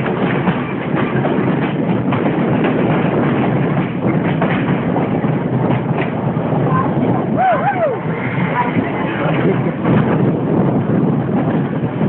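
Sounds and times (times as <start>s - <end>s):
train rumbling: 0.0s - 12.0s
wheels clicking over rails: 0.0s - 12.0s.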